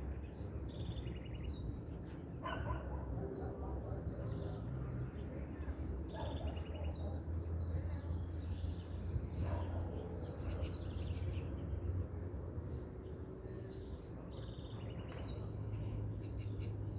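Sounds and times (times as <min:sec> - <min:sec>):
small birds chirping and trilling: 0:00.0 - 0:16.9.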